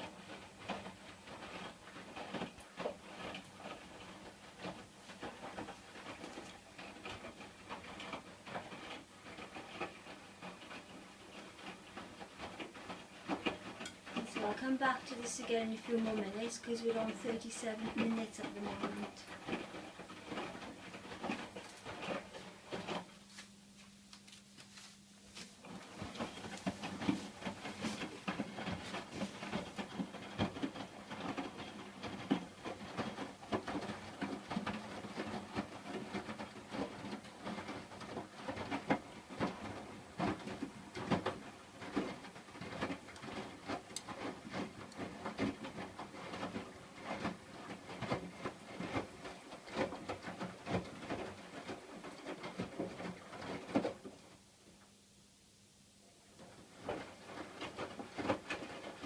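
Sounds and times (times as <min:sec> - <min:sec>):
washing machine drum tumbling laundry: 0:00.0 - 0:54.8, 0:56.2 - 0:59.0.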